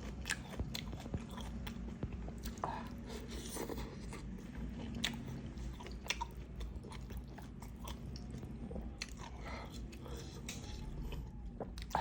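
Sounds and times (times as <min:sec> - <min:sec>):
person chewing: 0:00.0 - 0:12.0
steady low hum: 0:00.0 - 0:12.0.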